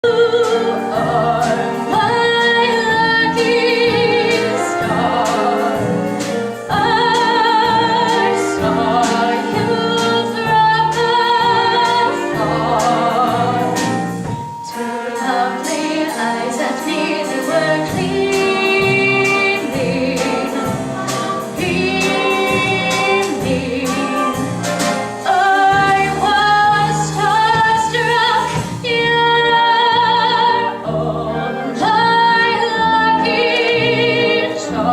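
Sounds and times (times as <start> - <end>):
instrumental accompaniment: 0.0 - 34.9
voices singing with vibrato: 0.0 - 34.9.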